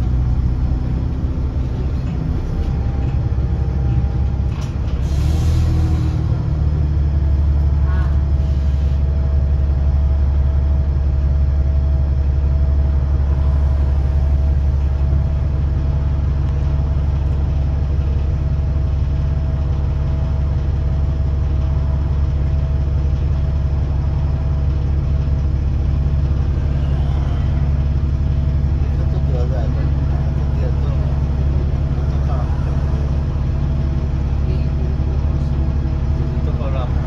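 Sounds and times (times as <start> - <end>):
bus diesel engine idling: 0.0 - 37.0.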